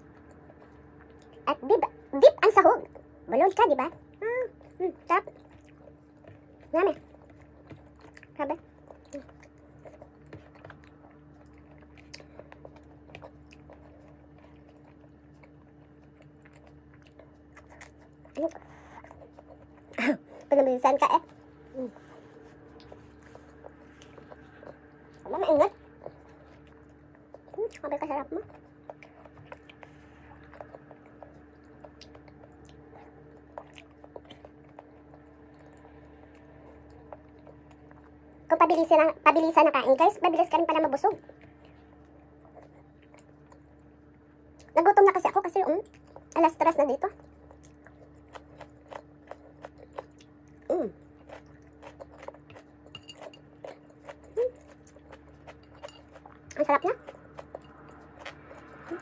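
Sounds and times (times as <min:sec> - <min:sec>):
person chewing: 0:00.0 - 0:02.1, 0:03.9 - 0:20.6, 0:21.2 - 0:38.5, 0:41.2 - 0:44.8, 0:47.1 - 0:59.0
steady low hum: 0:00.0 - 0:59.0.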